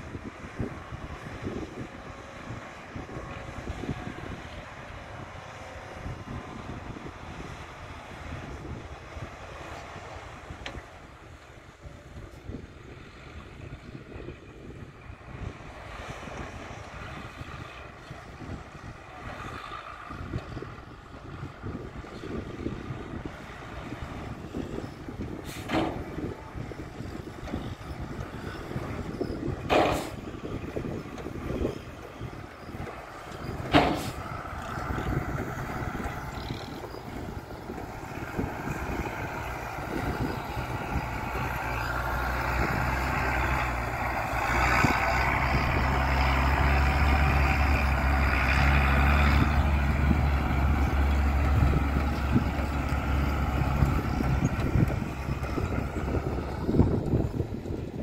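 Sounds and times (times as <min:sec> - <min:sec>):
dump truck diesel engine running: 0:00.0 - 0:58.0.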